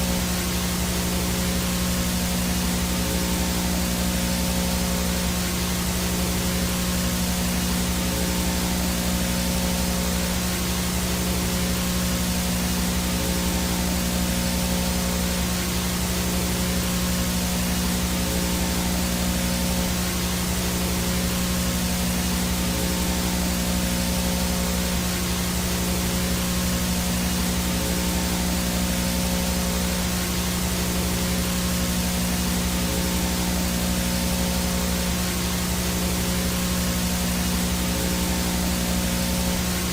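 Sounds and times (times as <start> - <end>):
low electrical buzz: 0.0 - 39.9
static hiss: 0.0 - 39.9.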